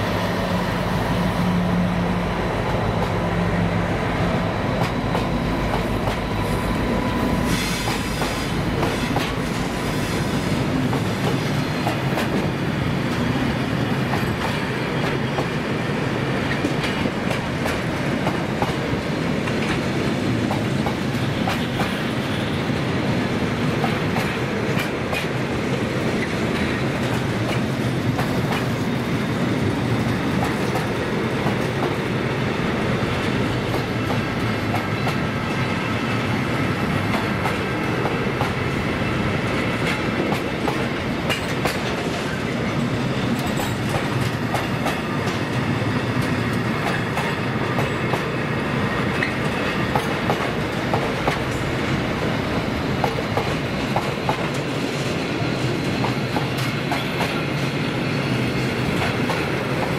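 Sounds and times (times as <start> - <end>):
train wagons rolling past: 0.0 - 59.9.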